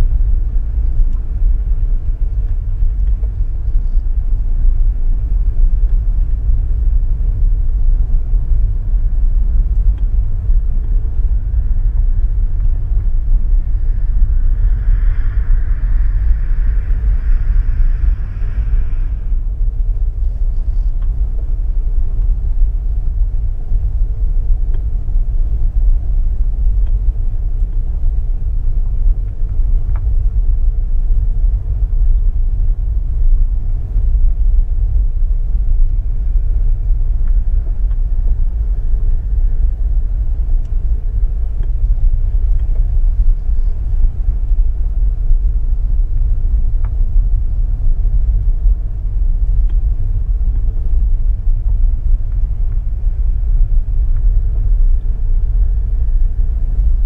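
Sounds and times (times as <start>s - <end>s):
car road noise rumble: 0.0s - 57.0s
faint engine hum: 0.0s - 57.0s.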